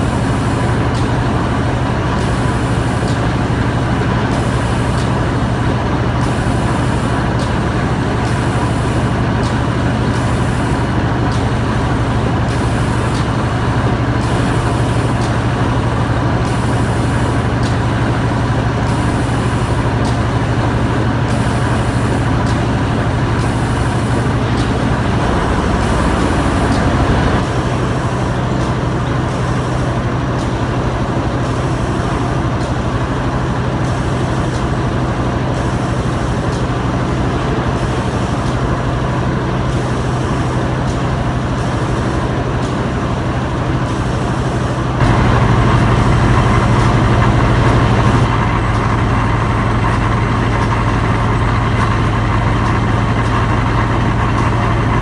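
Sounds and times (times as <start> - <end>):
machinery mechanical din: 0.0 - 55.0.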